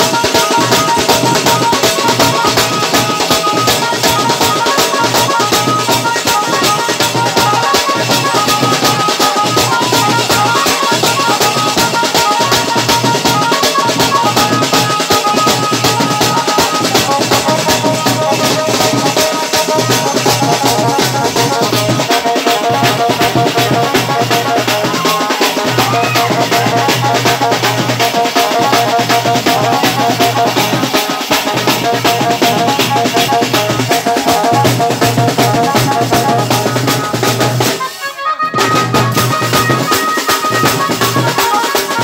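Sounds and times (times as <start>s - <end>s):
high held melody: 0.0s - 42.0s
snare drums beaten rapidly: 0.0s - 42.0s.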